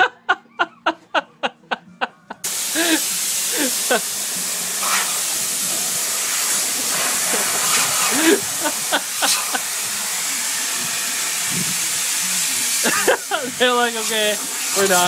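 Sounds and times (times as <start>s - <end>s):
compressed air hissing: 2.4s - 15.0s.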